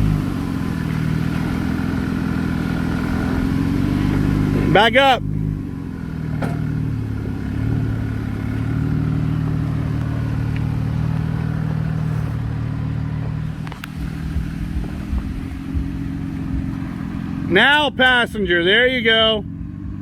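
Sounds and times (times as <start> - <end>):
off-road vehicle engine at low revs: 0.0 - 20.0.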